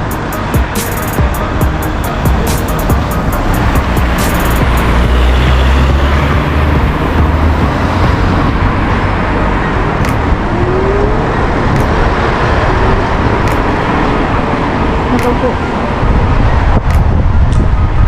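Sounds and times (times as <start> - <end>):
deep rumble: 0.0 - 18.0
road traffic: 0.0 - 18.0
wind on microphone: 1.3 - 18.0.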